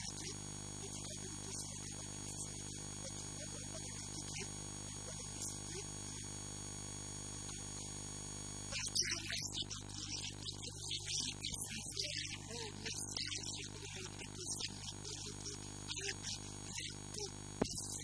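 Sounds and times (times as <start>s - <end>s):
electrical hum and buzz: 0.0s - 18.0s.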